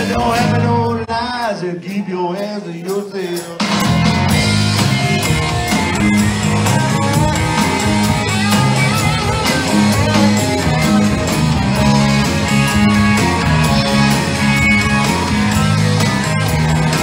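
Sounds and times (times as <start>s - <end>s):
electric guitars: 0.0s - 1.1s, 3.4s - 17.0s
bass guitar: 0.0s - 1.5s, 2.9s - 17.0s
steady drum beat: 0.0s - 17.0s.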